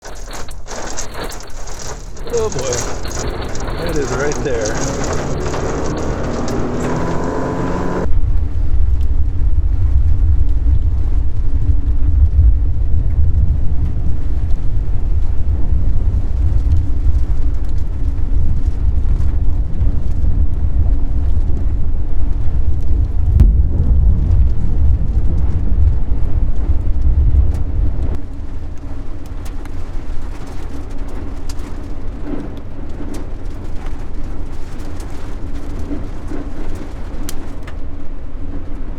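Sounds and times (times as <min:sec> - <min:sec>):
wind buffeting microphone: 0:02.1 - 0:38.9.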